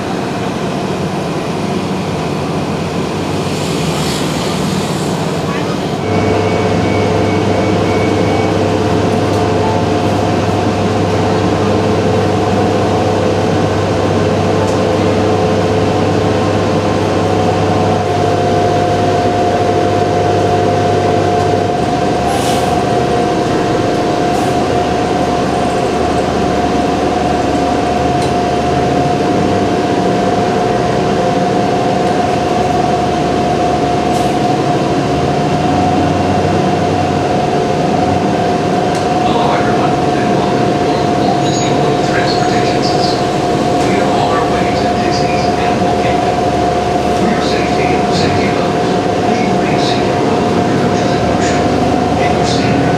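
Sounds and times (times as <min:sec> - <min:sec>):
bus engine low hum: 0:00.0 - 0:52.9.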